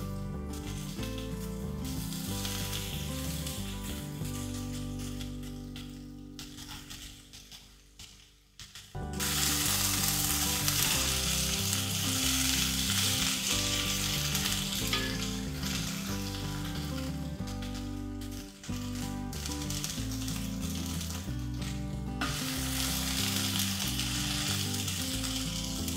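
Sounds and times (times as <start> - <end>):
vegetables sizzling in a pot: 0.0 - 25.9.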